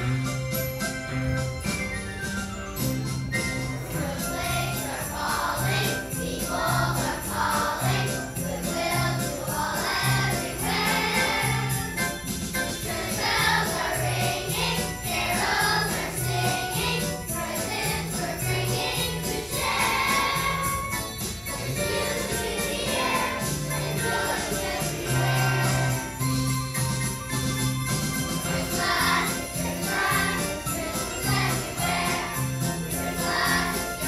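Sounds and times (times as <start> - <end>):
jingling bells: 0.0 - 34.0
children's choir singing: 3.6 - 26.5, 28.3 - 34.0.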